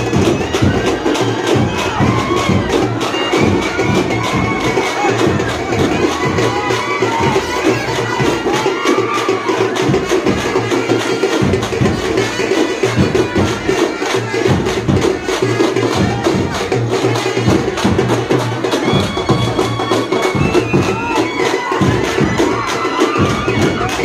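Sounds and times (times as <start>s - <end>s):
fast festival drumming: 0.0s - 24.0s
large crowd noise: 0.0s - 24.0s.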